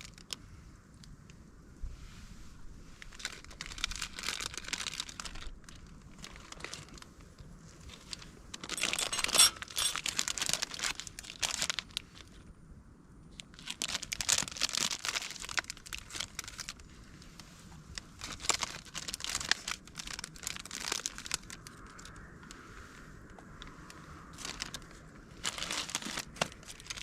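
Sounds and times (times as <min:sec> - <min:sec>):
crinkling and rustling: 0:02.3 - 0:12.4, 0:13.3 - 0:27.0.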